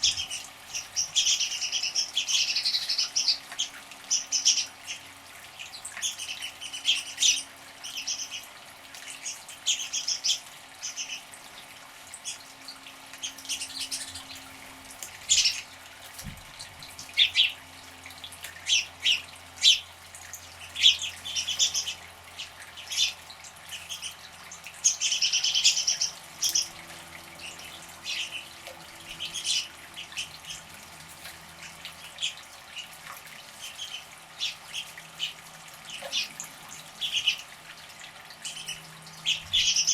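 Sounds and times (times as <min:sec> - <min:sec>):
small birds chirping: 0:00.0 - 0:11.4, 0:13.2 - 0:16.3, 0:16.9 - 0:37.5, 0:38.3 - 0:39.9.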